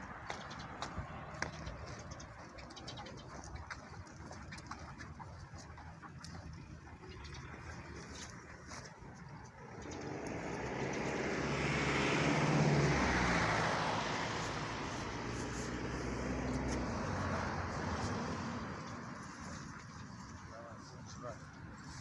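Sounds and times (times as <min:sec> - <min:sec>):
motor vehicle passing by: 0:00.0 - 0:22.0.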